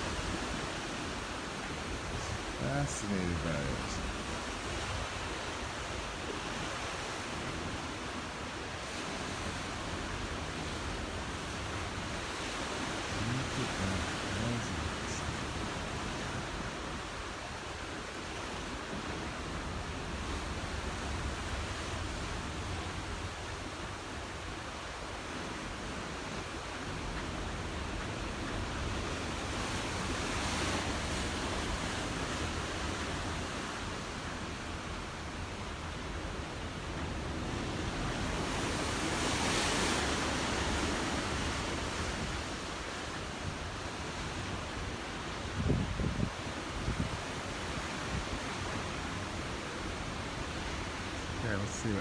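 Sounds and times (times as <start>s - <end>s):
wind and waves rushing: 0.0s - 52.0s.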